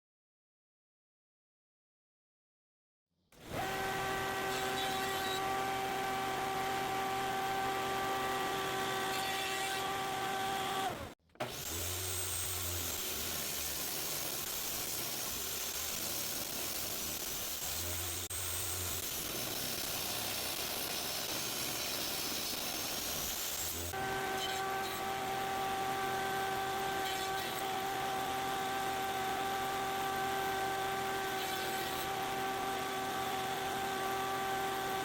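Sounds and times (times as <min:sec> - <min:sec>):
power tool motor humming: 0:03.4 - 0:35.0.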